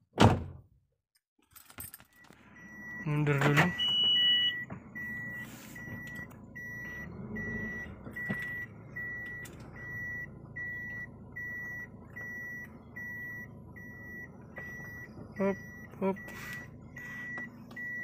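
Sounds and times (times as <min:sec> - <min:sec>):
car engine running low: 0:02.2 - 0:18.0
reversing beeper: 0:02.2 - 0:18.0.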